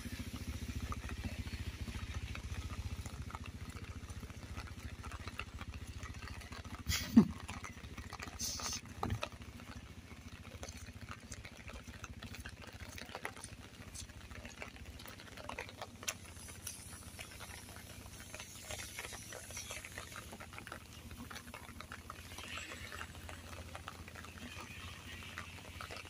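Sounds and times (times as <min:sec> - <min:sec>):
rain on wet street: 0:00.0 - 0:26.0.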